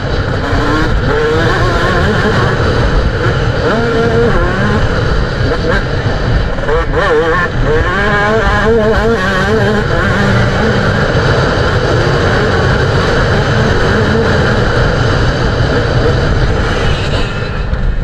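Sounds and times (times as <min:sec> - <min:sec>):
motocross engine revving: 0:00.0 - 0:18.0.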